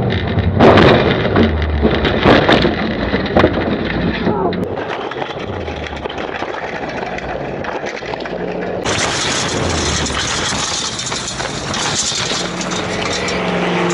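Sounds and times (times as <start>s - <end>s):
low engine hum: 0.0s - 13.9s
boat hull scraping across dirt: 0.3s - 13.9s.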